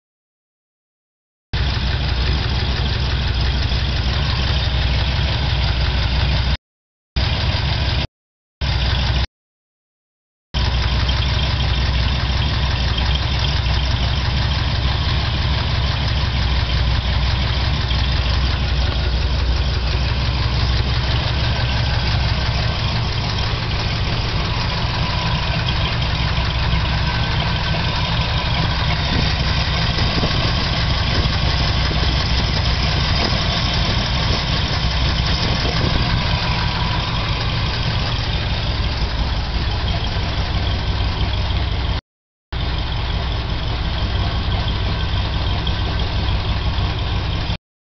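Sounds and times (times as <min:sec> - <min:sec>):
engine idling: 0:01.6 - 0:06.6, 0:07.2 - 0:09.3, 0:10.6 - 0:47.6
engine ticking: 0:01.6 - 0:06.6, 0:07.2 - 0:09.3, 0:10.6 - 0:47.6.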